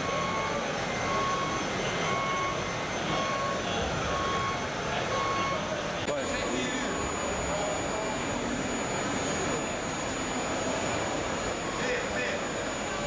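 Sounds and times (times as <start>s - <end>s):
reversing beeper: 0.0s - 13.0s
steady background noise: 0.0s - 13.0s.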